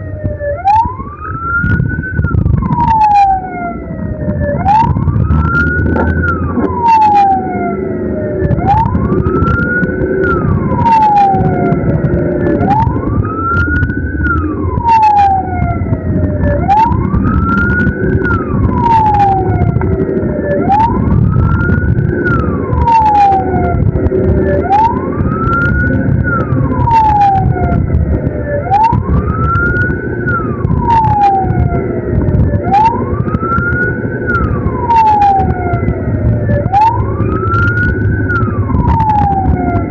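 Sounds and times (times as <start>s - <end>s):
ambulance siren wailing: 0.0s - 39.9s
engine and road rumble: 0.0s - 39.9s.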